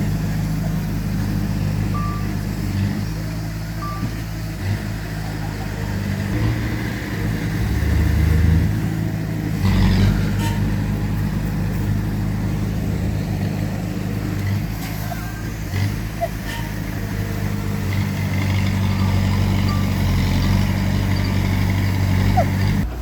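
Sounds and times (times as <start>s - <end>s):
diesel earthmoving machinery running: 0.0s - 23.0s.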